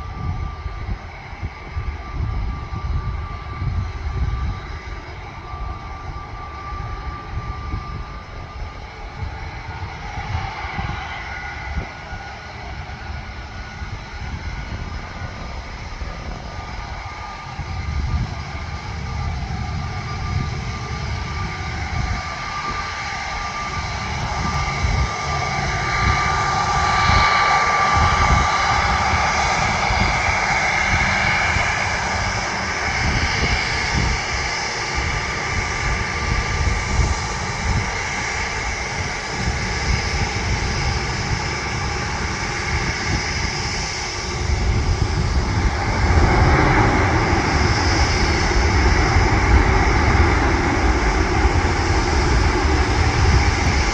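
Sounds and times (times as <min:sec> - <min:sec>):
jet engines whining and roaring: 0:00.0 - 0:53.9.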